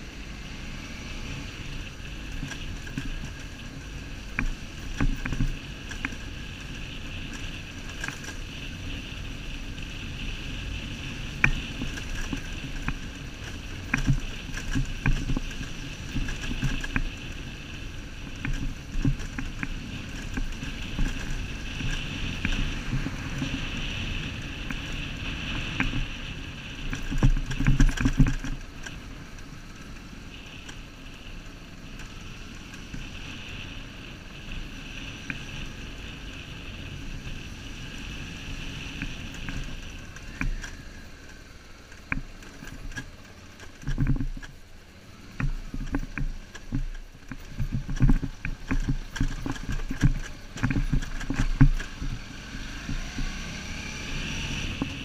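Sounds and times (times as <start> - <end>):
motorcycle engine running: 0.0 - 55.0
thumps and rattles over bumps: 1.6 - 55.0.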